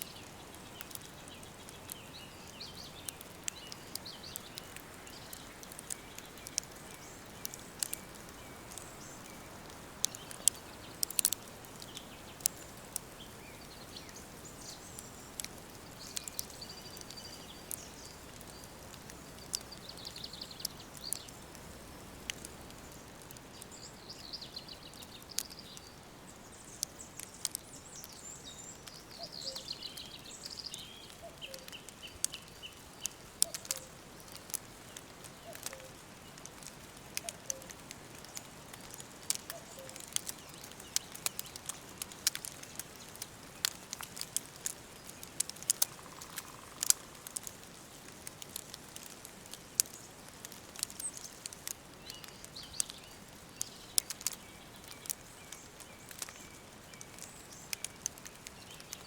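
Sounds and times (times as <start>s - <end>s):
songbirds singing: 0.0s - 59.0s
wood fire crackling: 0.0s - 59.0s.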